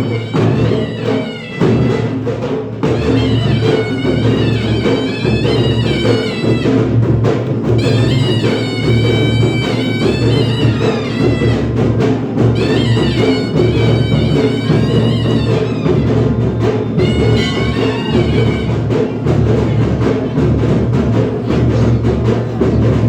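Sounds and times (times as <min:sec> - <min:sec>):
heavy drums beating: 0:00.0 - 0:23.0.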